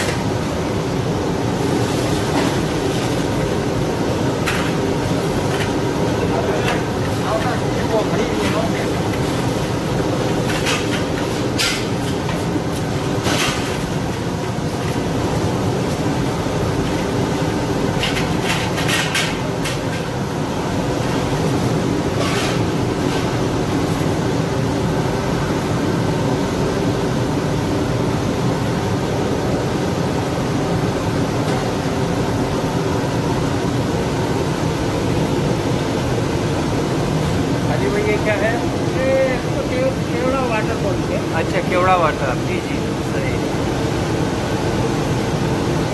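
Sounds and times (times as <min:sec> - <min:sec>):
pot boiling roar: 0:00.0 - 0:45.9.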